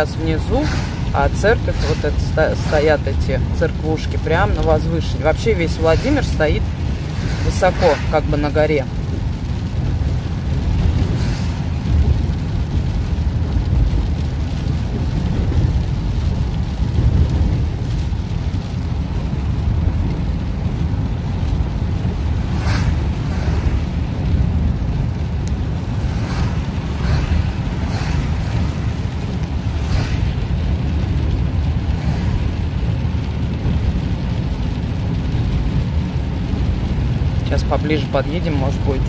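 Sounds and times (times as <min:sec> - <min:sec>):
tyre and engine rumble: 0:00.0 - 0:39.0.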